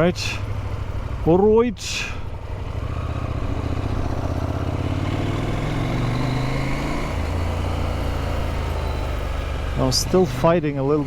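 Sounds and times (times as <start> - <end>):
motorcycle engine pulling under throttle: 0.0 - 11.0.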